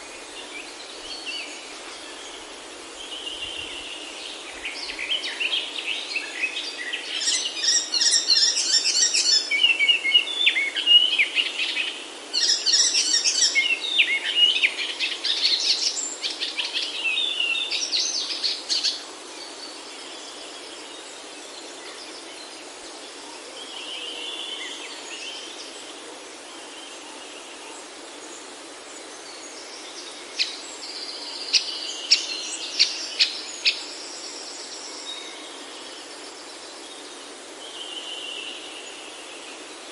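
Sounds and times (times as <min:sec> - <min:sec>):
forest birds singing: 0:00.0 - 0:39.9
steady background hiss: 0:00.0 - 0:39.9.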